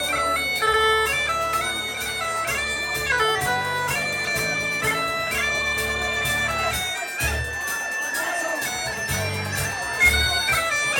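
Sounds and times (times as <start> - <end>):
reedy instrument melody: 0.0 - 10.9.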